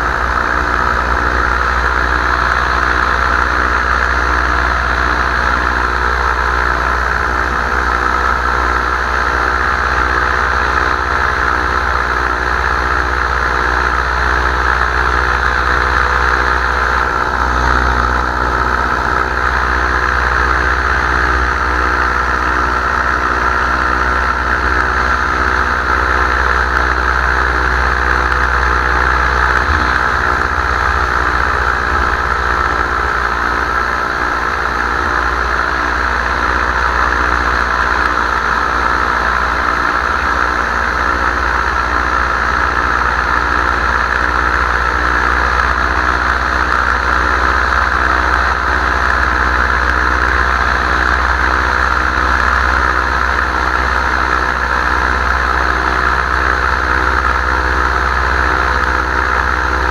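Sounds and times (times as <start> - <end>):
wind rumble on microphone: 0.0 - 54.2
paramotor engine and propeller: 0.0 - 59.9.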